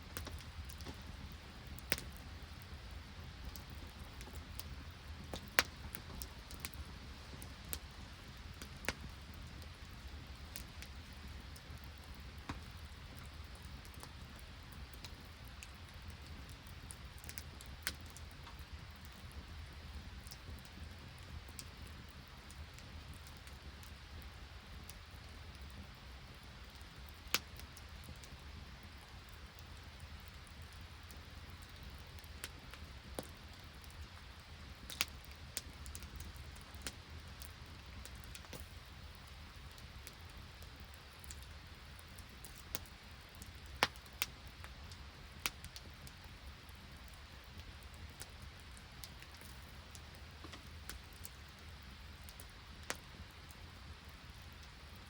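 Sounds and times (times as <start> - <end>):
campfire popping: 0.0 - 55.0.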